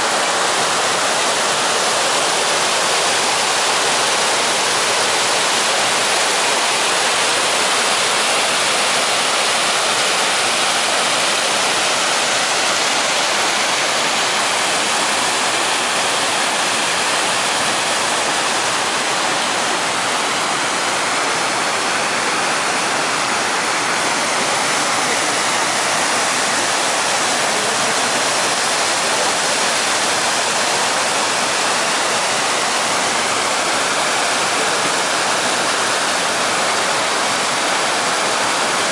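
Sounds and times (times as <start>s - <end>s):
water flowing rush: 0.0s - 38.9s.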